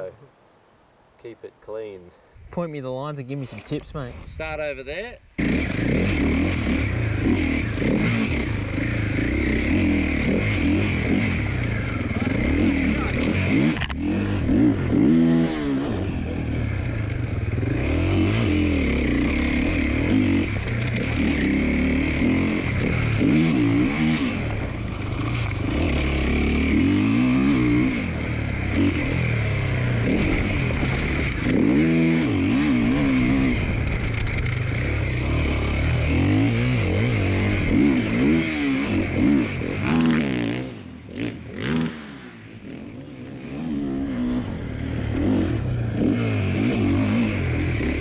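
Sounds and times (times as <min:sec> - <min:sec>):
motorcycle engine revving: 0:05.4 - 0:48.0.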